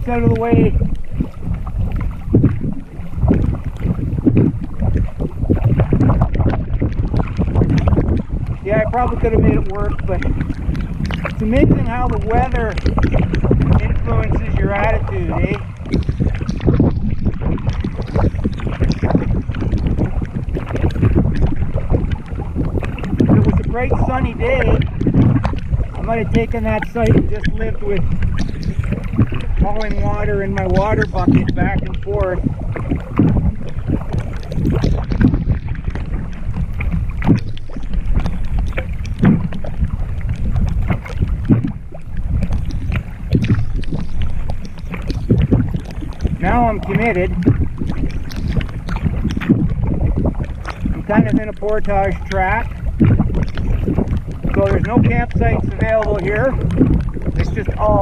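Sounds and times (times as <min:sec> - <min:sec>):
canoe paddle strokes: 0:00.0 - 0:58.0
water splashing and dripping: 0:00.0 - 0:58.0
wind buffeting microphone: 0:00.0 - 0:58.0.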